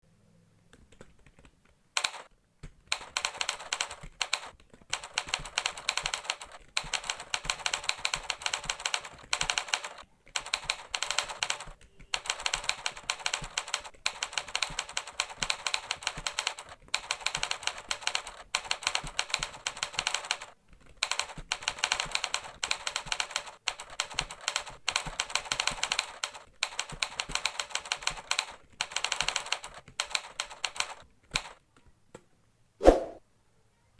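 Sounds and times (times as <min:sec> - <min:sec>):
fast typing on keyboard: 0:00.7 - 0:31.9.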